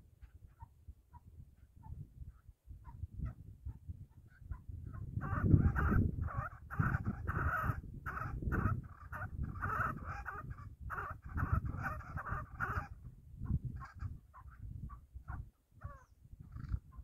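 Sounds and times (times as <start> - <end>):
partridge calling: 0.2 - 17.0.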